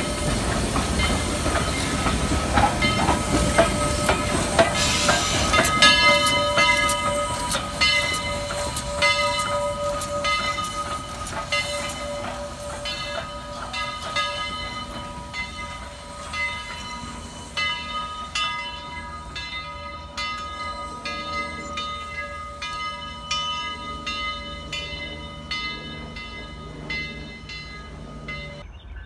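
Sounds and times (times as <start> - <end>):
locomotive bell ringing: 0.0 - 28.7
train rumbling: 0.0 - 28.7.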